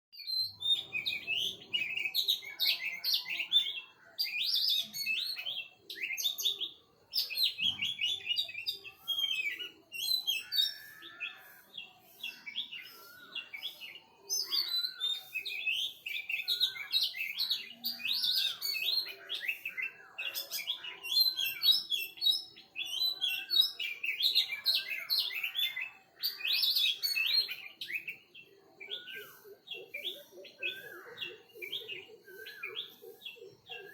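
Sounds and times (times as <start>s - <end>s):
small birds chirping: 0.2s - 33.9s.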